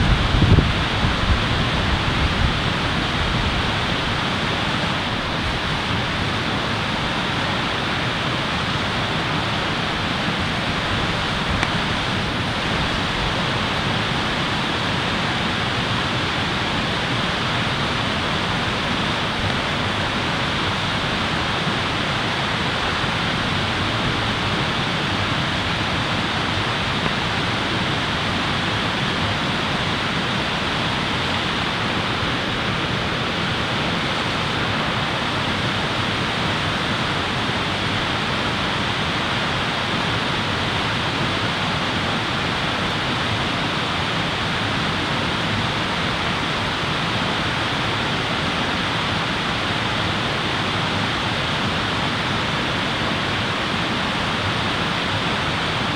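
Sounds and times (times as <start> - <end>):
steady rushing noise: 0.0 - 55.9.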